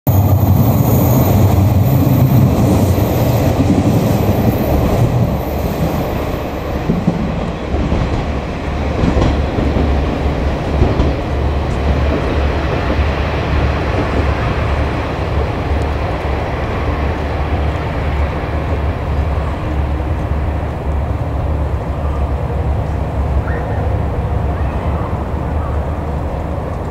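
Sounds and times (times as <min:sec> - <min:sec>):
diesel train rumbling on rails: 0:00.0 - 0:26.9.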